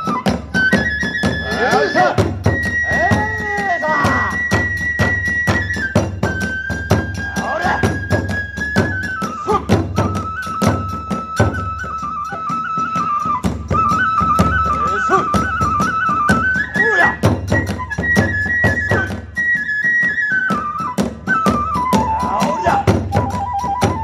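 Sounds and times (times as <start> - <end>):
bamboo flute melody: 0.0 - 24.0.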